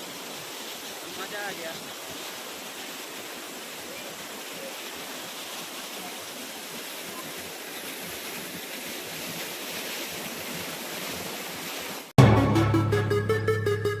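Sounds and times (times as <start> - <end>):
waterfall rushing: 0.0 - 12.1.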